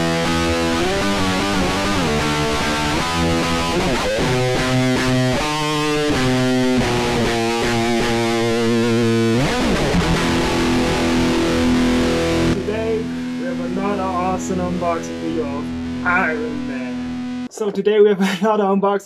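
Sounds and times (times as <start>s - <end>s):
distorted electric guitar riff: 0.0s - 17.7s.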